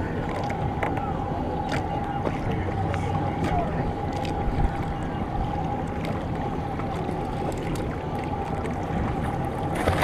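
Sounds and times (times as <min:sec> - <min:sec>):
outboard motors idling: 0:00.0 - 0:10.0
water wash: 0:00.0 - 0:10.0.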